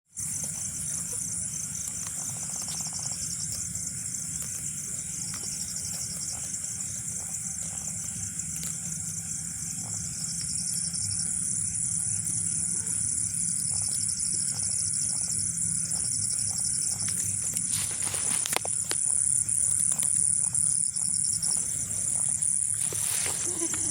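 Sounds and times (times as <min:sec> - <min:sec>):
insects chirring: 0:00.1 - 0:23.9.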